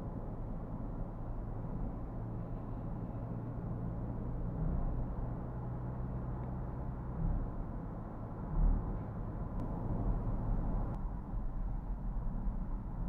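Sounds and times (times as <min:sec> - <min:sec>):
tyre and engine rumble in car: 0:00.0 - 0:13.0.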